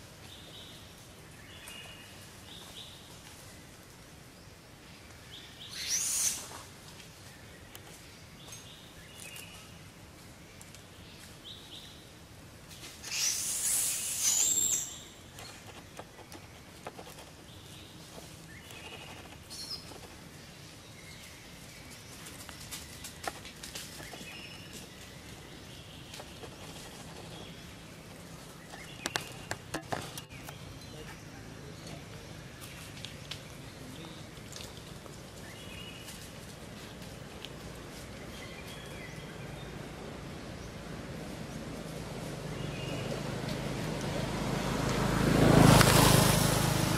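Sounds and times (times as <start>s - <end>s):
leaf rustling: 0.0s - 40.2s.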